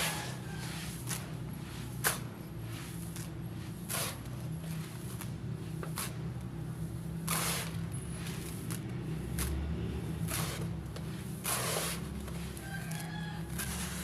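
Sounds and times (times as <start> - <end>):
concrete crunching: 0.0 - 14.0.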